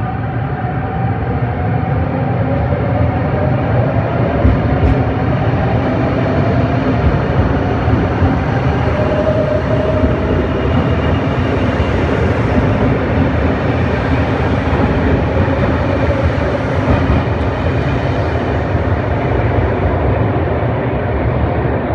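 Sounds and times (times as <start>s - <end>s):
electric train rumbling: 0.0s - 21.9s.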